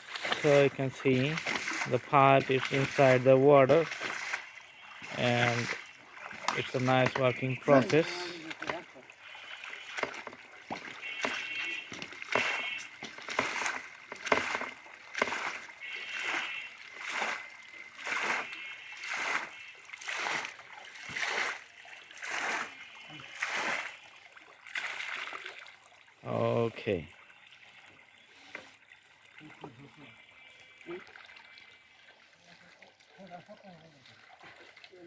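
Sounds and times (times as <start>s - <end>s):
water splashing and sloshing: 0.0s - 35.0s.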